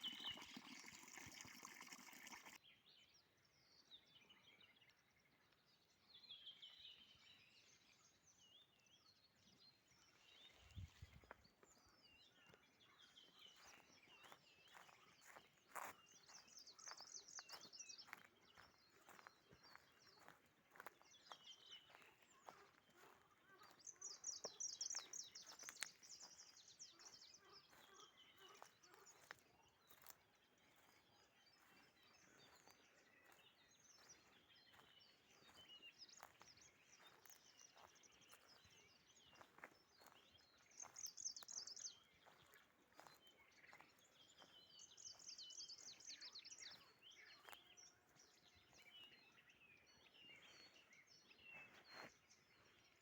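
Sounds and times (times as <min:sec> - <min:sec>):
songbirds trilling and chirping: 0:00.0 - 0:53.0.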